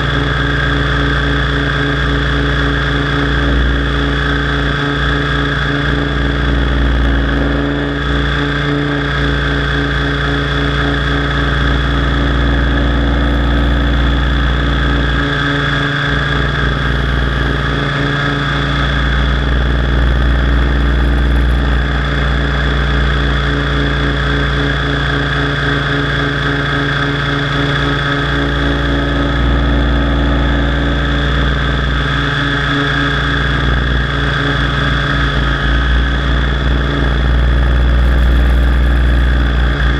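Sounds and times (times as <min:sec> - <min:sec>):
rc helicopter motor whine: 0:00.0 - 0:39.9
rotor rumble: 0:00.0 - 0:39.9.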